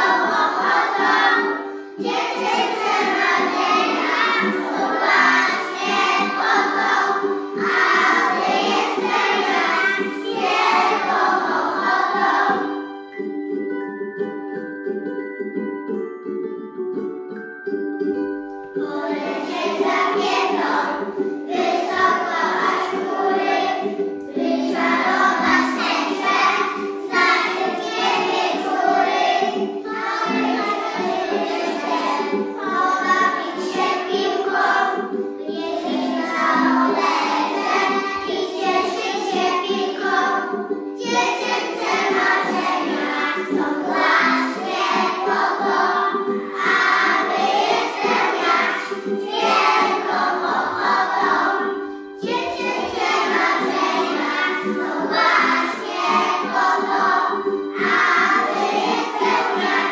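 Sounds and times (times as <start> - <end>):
children singing in unison: 0.0 - 12.9, 18.8 - 59.9
instrumental accompaniment: 0.0 - 59.9.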